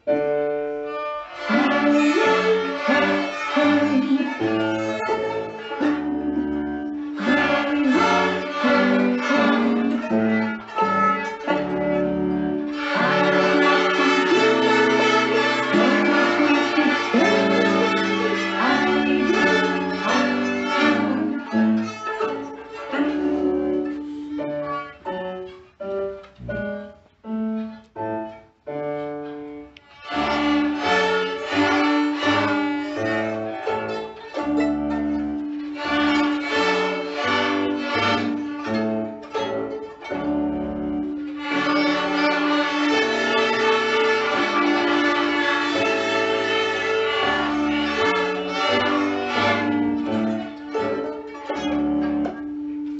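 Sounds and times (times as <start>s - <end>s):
children playing violins: 0.0s - 52.9s.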